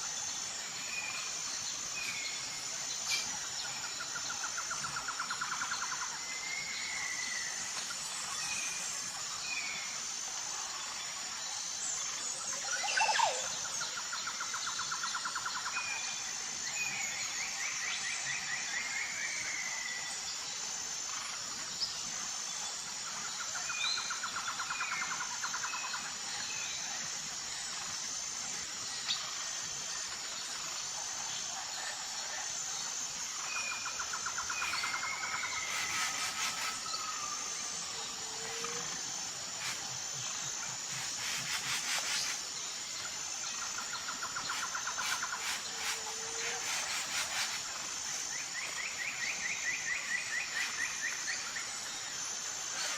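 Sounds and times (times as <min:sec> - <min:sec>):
high insect drone: 0:00.0 - 0:52.9.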